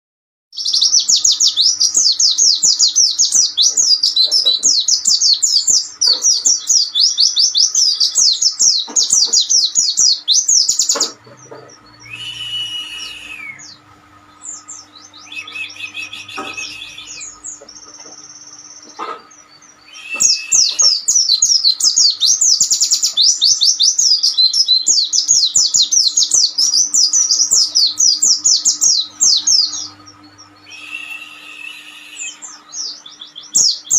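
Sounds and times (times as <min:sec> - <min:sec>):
faint steady hum: 0:00.6 - 0:33.9
songbird chirps and trills: 0:00.6 - 0:33.9.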